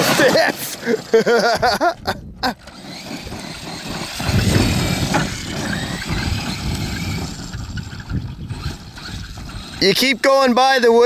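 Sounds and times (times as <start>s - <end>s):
rc truck motor and tyres on dirt: 0.0s - 11.0s.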